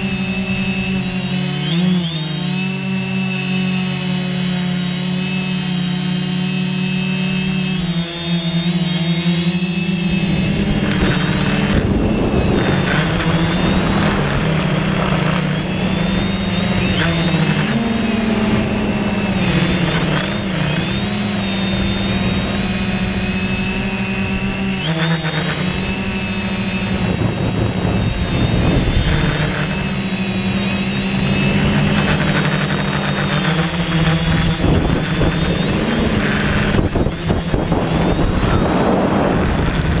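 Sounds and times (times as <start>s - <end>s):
drone motors humming and whining: 0.0s - 40.0s.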